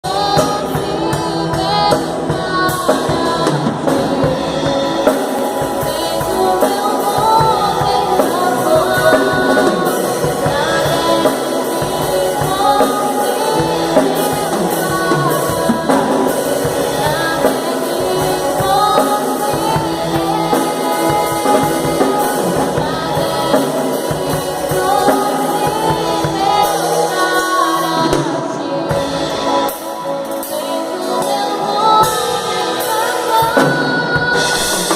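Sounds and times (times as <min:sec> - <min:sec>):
drum kit: 0:00.0 - 0:34.9
electric guitar: 0:00.0 - 0:34.9
woman singing: 0:00.0 - 0:34.9.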